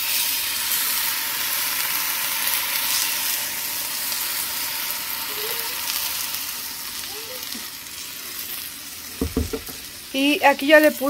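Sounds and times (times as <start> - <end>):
salsa sizzling in a frying pan: 0.0 - 11.0.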